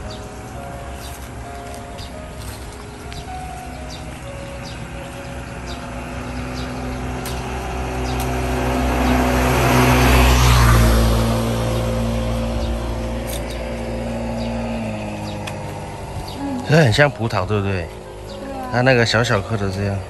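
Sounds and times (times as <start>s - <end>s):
motor vehicle passing by: 0.0s - 20.0s.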